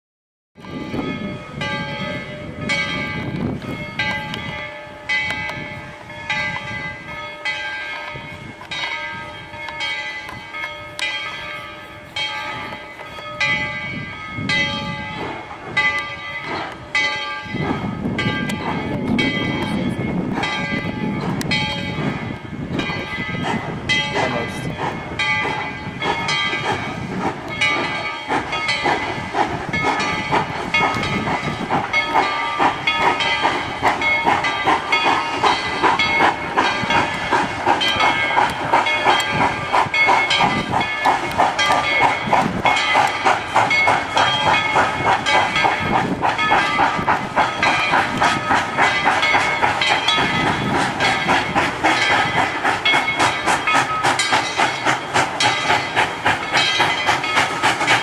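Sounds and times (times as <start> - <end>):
steam locomotive exhaust chuffs: 0.6 - 58.0
hissing steam: 11.3 - 58.0.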